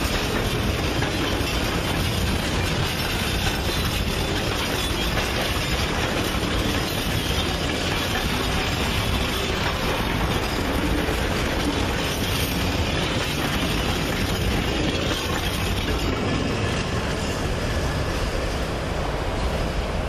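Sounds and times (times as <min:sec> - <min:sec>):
freight train wheels on track: 0:00.0 - 0:20.0.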